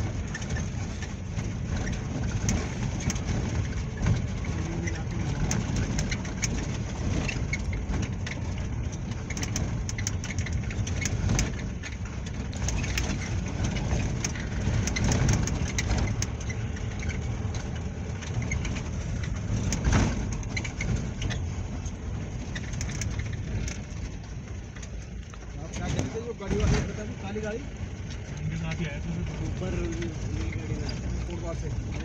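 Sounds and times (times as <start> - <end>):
vehicle engine and road noise: 0.0 - 32.0
wind rumbling on microphone: 0.0 - 32.0.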